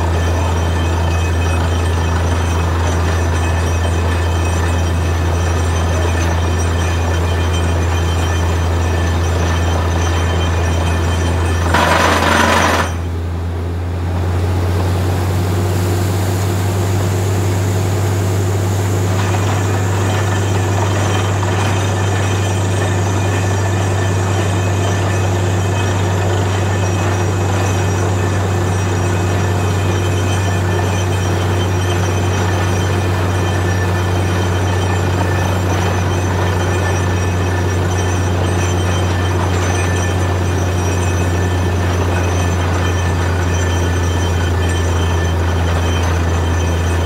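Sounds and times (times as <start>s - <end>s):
engine and compressor drone: 0.0s - 47.0s.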